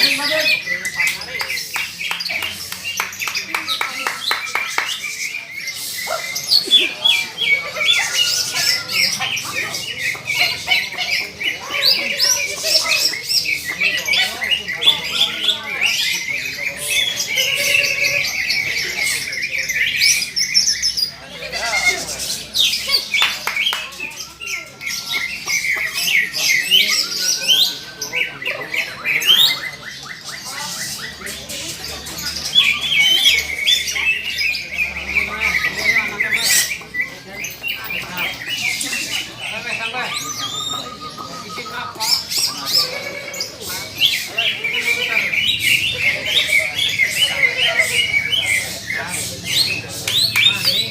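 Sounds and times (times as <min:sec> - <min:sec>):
birds chirping and squawking: 0:00.0 - 0:50.9.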